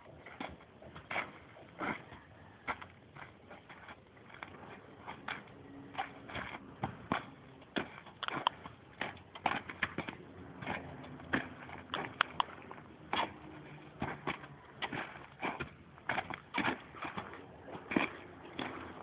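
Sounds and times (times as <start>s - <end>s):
horse hooves on hard dirt: 0.0s - 19.0s.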